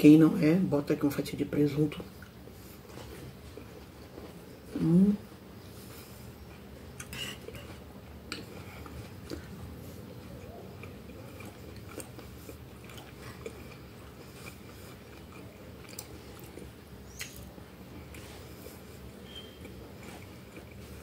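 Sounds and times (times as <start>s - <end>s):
person chewing food: 2.2s - 4.8s, 5.6s - 21.0s.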